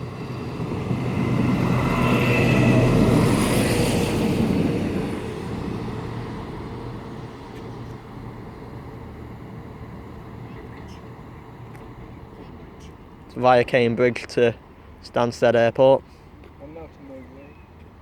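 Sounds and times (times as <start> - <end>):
diesel train passing: 0.0 - 18.0.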